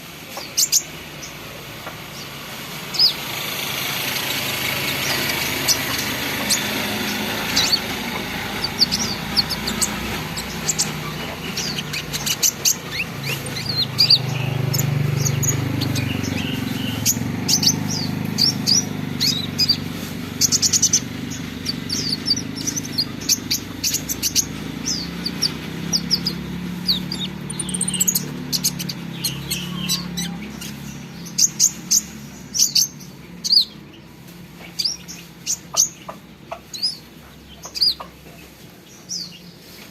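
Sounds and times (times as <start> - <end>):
bird singing high chirps: 0.4 - 1.4, 2.9 - 38.1.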